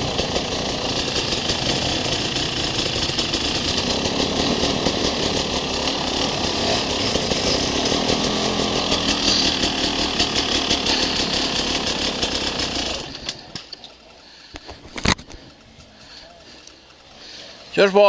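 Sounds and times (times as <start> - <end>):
dirt bike engine buzzing: 0.0 - 18.0.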